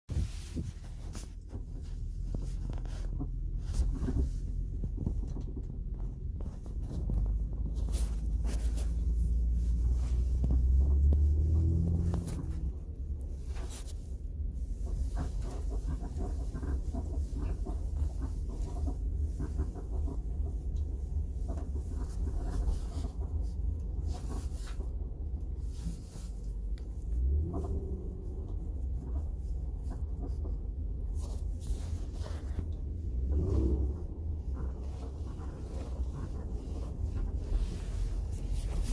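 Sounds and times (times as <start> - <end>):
low rumble in car cabin: 0.1 - 38.9.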